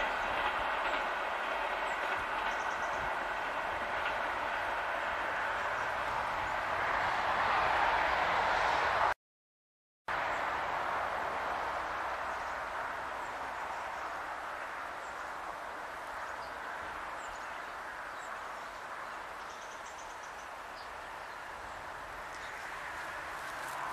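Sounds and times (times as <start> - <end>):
train wheels on rail: 0.0 - 9.2, 10.1 - 23.9.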